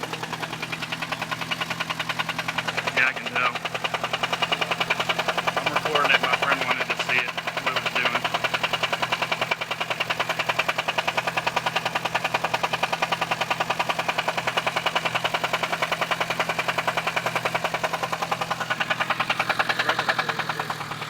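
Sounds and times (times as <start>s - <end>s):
engine hum: 0.0s - 21.0s
engine knocking: 0.0s - 21.0s.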